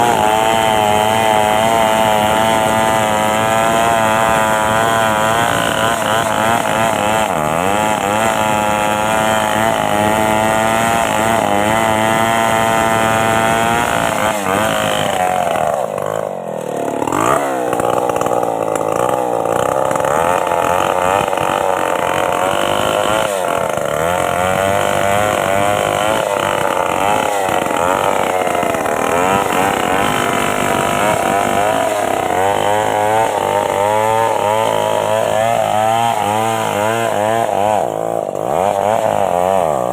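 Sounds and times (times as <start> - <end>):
chainsaw cutting a tree: 0.0 - 39.9.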